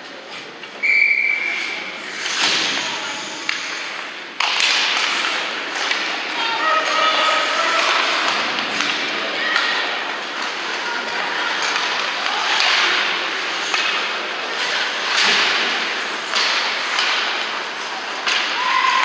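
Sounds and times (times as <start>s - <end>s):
hockey sticks and puck clacking: 1.2s - 19.0s
skate blades scraping ice: 1.5s - 19.0s.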